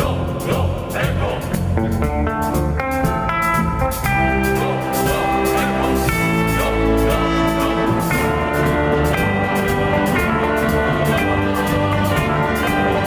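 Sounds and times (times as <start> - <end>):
steady drum beat: 0.0 - 13.0
held chords: 2.0 - 13.0.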